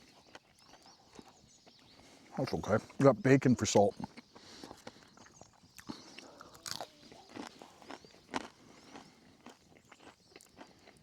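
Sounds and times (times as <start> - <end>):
chewing crispy bacon: 0.0 - 3.0, 3.7 - 11.0.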